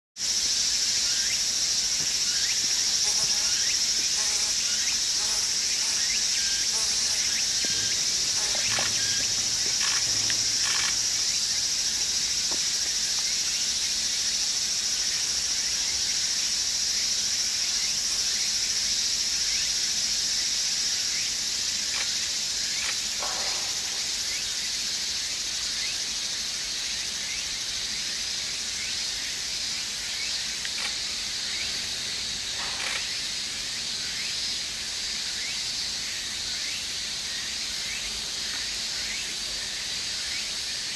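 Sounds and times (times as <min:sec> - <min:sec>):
high-pitched insect chorus: 0:00.2 - 0:40.9.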